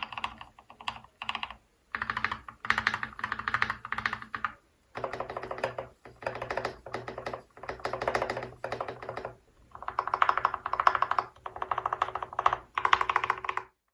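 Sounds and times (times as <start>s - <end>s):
fast typing on mechanical keyboard: 0.0s - 13.8s.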